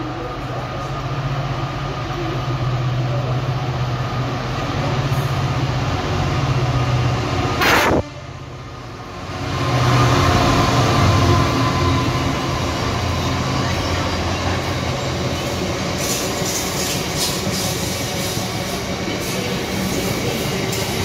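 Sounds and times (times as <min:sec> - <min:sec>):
locomotive diesel engine: 0:00.0 - 0:21.0.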